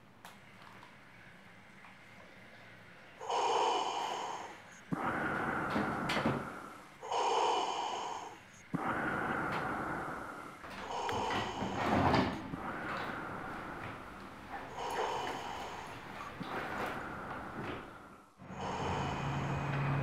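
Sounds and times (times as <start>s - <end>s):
breathing through a respirator: 3.2s - 20.0s.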